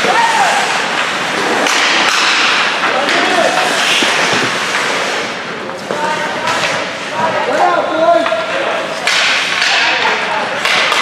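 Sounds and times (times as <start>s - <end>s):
skate blades scraping ice: 0.0s - 11.0s
sticks clacking on puck: 0.8s - 11.0s.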